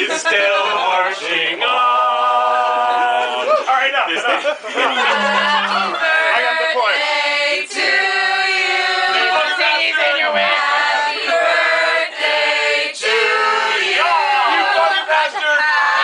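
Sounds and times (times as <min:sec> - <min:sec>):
group singing unaccompanied: 0:00.0 - 0:03.5, 0:04.8 - 0:16.0.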